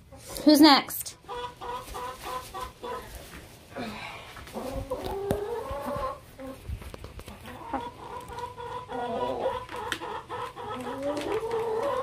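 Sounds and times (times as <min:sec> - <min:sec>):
hen clucking: 0:00.0 - 0:03.4, 0:04.4 - 0:12.0.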